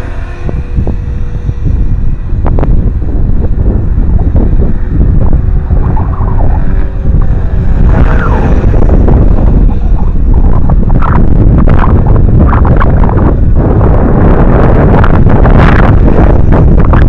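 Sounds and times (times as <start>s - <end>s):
faint motor whine: 0.0s - 17.0s
wind buffeting microphone: 0.0s - 17.0s.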